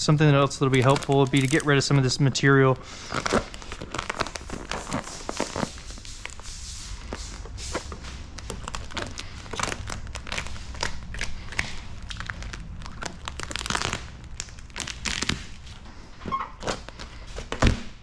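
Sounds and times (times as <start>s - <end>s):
plastic film crinkling: 0.6s - 17.8s.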